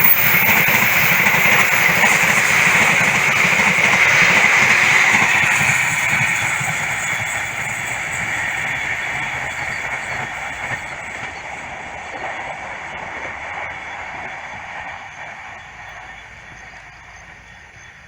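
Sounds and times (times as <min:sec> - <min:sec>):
train running on rails: 0:00.0 - 0:18.0.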